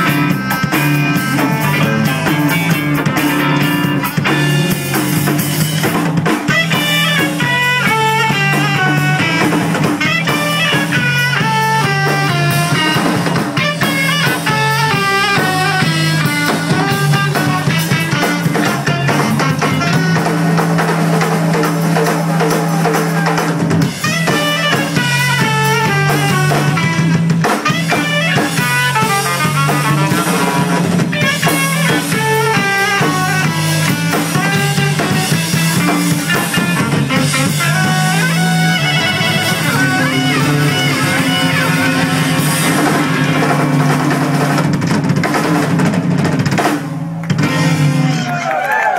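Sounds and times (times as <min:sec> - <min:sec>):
saxophone runs: 0:00.0 - 0:44.9
drum kit with snare rimshots: 0:00.0 - 0:48.4
bass guitar line: 0:00.0 - 0:48.9
jazz-funk band playing: 0:00.0 - 0:48.9.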